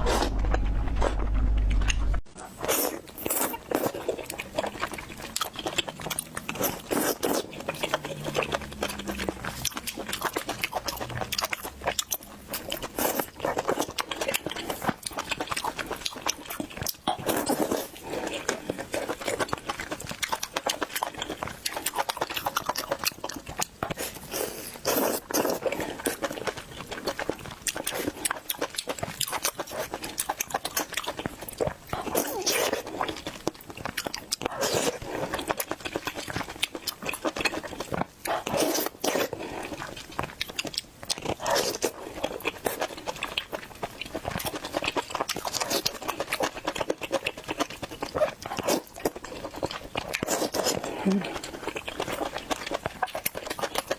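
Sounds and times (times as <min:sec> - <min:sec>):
person eating and slurping: 0:00.0 - 0:53.9.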